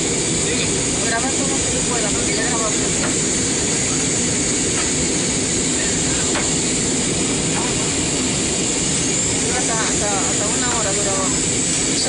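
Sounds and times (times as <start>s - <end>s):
airliner cabin roar: 0.0s - 12.0s.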